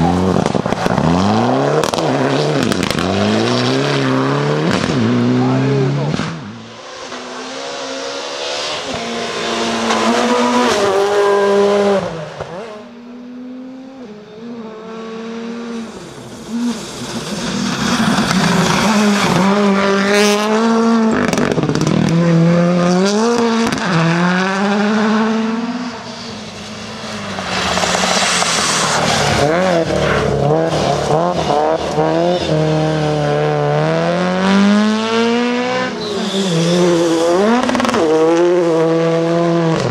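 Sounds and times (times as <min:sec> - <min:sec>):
rally car engines revving: 0:00.0 - 0:39.9.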